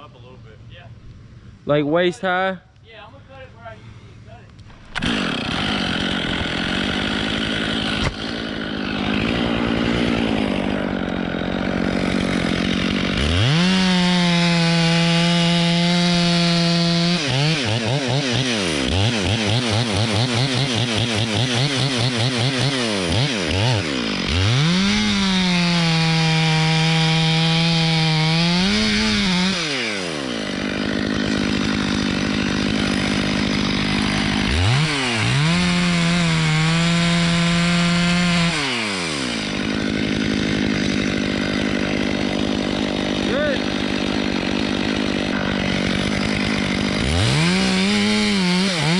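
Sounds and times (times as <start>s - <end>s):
chainsaw revving and idling: 3.1s - 48.9s
chainsaw cutting into wood: 4.6s - 48.9s.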